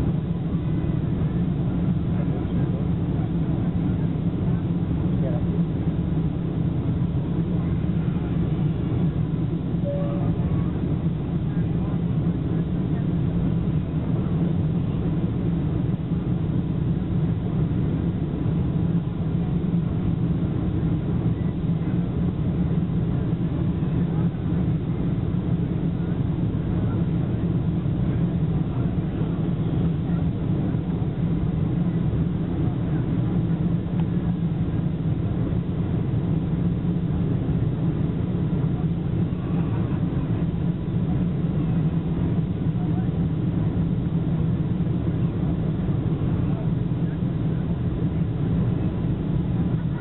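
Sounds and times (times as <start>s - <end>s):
airliner engines rumbling: 0.0s - 50.0s.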